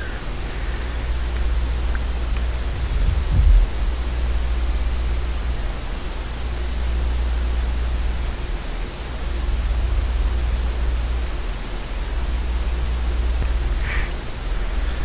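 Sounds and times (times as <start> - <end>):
microphone hiss with low hum: 0.0 - 15.0.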